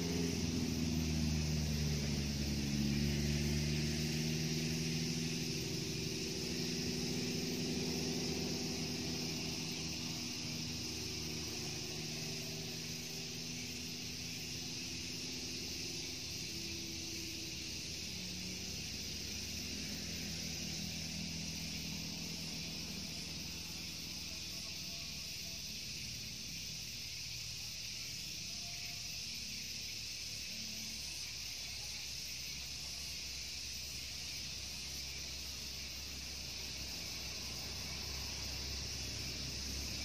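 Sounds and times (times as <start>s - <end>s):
distant engine hum: 0.0s - 40.0s
insects chirring: 0.0s - 40.0s.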